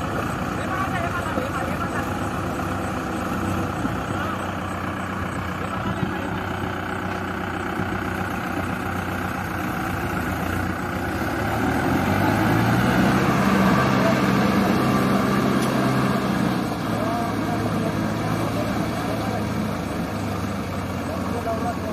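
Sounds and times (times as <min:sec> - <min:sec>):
diesel engine running and revving: 0:00.0 - 0:21.9.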